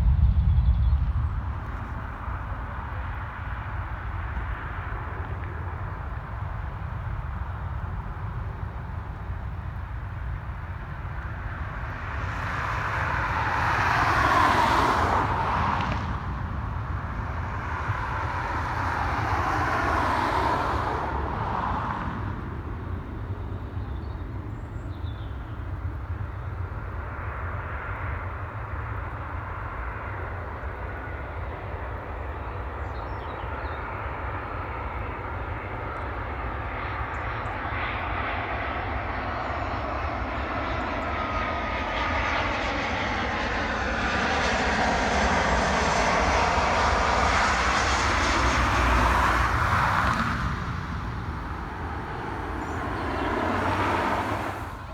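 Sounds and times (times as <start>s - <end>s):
airliner engine drone: 0.0s - 54.9s.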